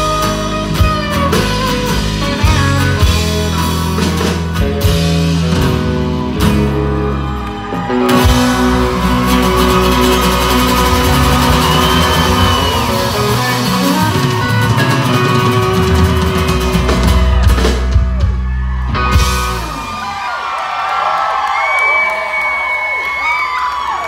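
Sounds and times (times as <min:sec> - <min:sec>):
live country band playing: 0:00.0 - 0:20.3
crowd cheering and whooping: 0:04.6 - 0:24.0.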